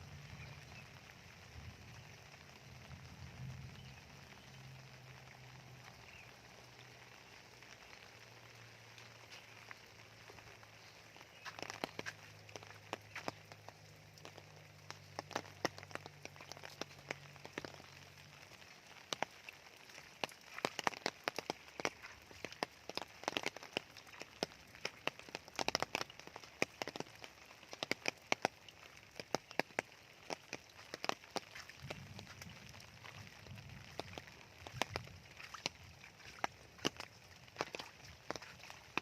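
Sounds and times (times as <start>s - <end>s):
raindrops ticking: 0.0s - 39.0s
steady rain hiss: 0.0s - 39.0s.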